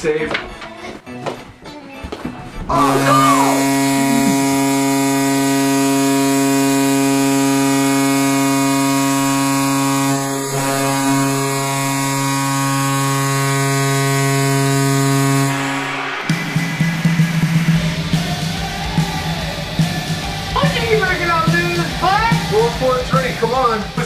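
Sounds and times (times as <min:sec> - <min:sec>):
deep arena goal horn blast: 0:02.7 - 0:24.0.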